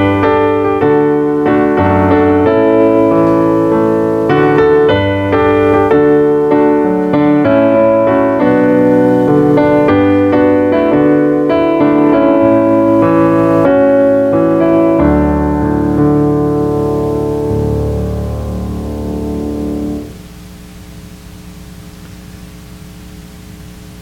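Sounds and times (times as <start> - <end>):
slow keyboard music: 0.0 - 20.3.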